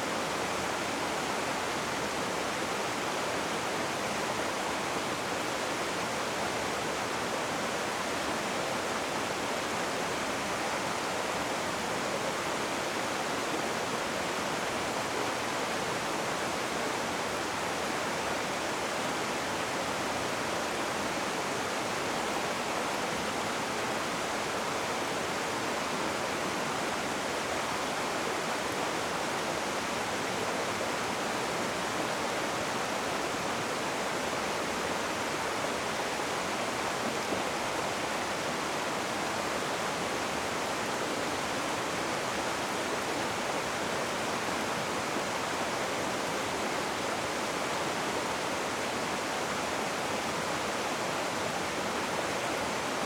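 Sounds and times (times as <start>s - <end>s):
rushing river water: 0.0s - 53.0s.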